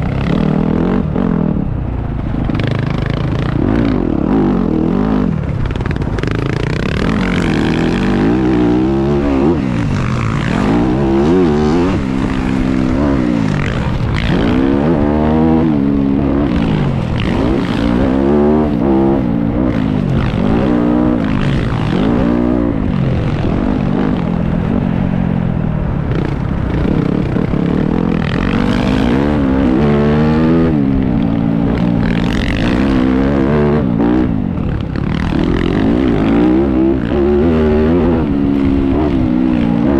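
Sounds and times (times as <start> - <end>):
motocross bike engine revving: 0.0 - 25.2, 26.0 - 39.9.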